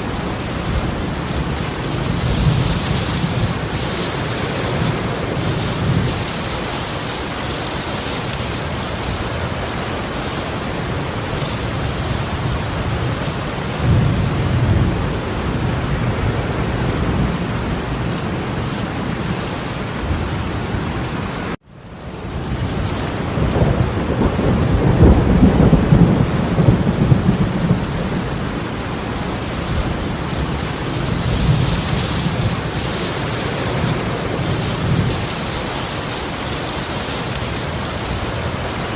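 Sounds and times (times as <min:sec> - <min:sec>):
torrential rain pouring: 0:00.0 - 0:38.9.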